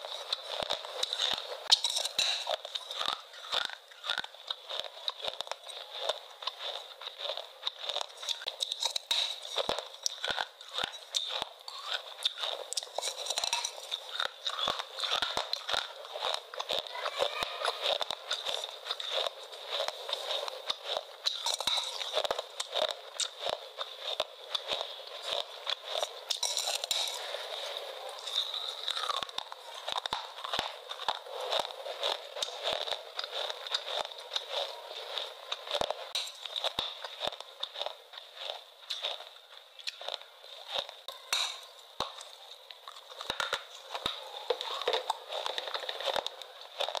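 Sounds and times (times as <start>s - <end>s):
crisp crunching cracks: 0.0s - 47.0s.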